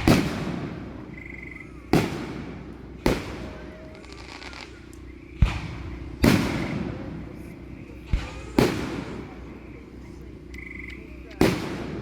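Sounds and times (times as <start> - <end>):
faint fireworks crackle: 0.0 - 12.0
fireworks booming: 0.0 - 12.0.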